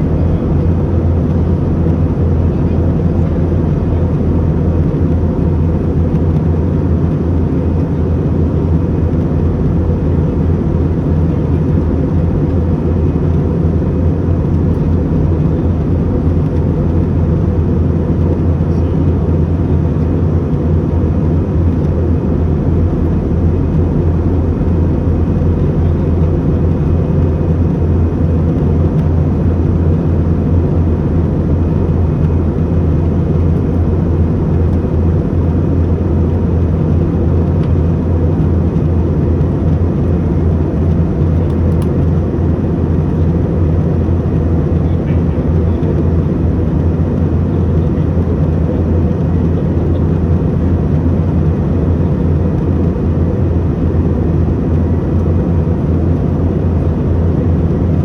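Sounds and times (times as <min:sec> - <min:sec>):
airliner cabin engine rush: 0:00.0 - 0:58.0
constant low hum: 0:00.0 - 0:58.0.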